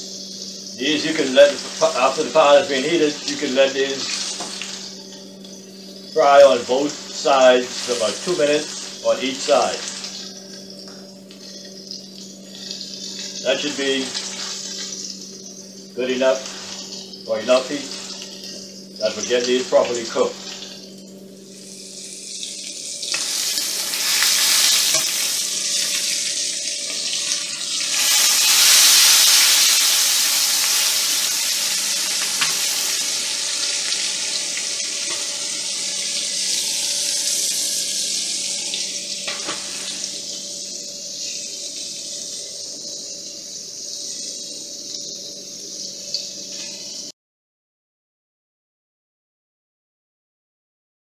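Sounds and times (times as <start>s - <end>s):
pork chop sizzling in a skillet: 0.0s - 47.1s.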